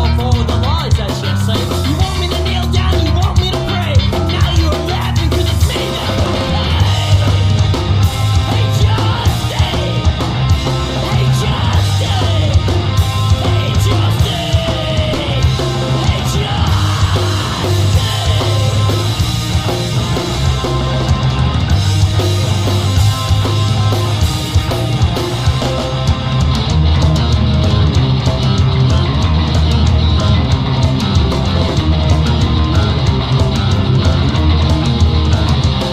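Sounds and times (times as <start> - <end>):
heavy rock music with vocals: 0.0 - 35.9.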